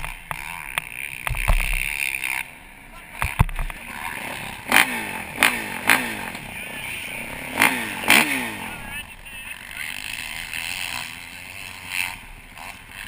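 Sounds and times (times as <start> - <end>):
dirt bike engine idling: 0.0 - 13.0
dirt bike engine revving: 0.0 - 13.0.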